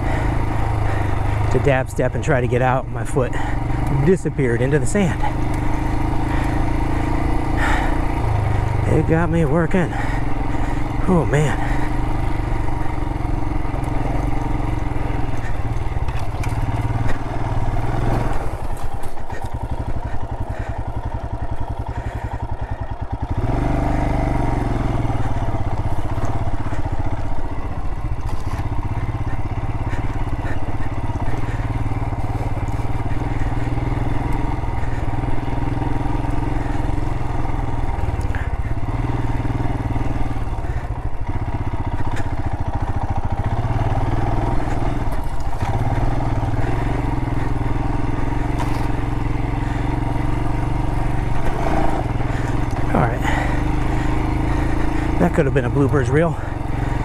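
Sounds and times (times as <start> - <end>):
motorcycle engine pulling: 0.0 - 57.0.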